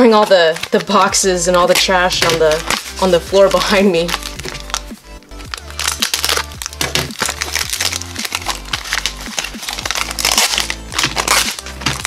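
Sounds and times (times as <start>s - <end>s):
plastic packaging crinkling: 0.0s - 12.0s
background music with bass line: 1.1s - 12.0s.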